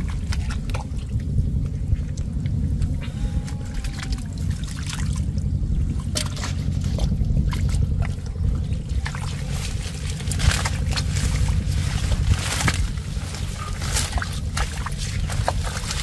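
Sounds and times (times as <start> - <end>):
steady low rumble: 0.0 - 16.0
water splashing and trickling: 0.0 - 16.0.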